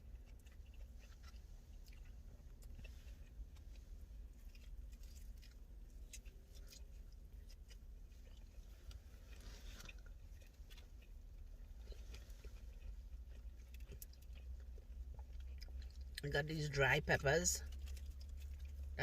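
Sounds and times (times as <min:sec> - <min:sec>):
person chewing food: 0:00.0 - 0:16.2, 0:17.6 - 0:19.0.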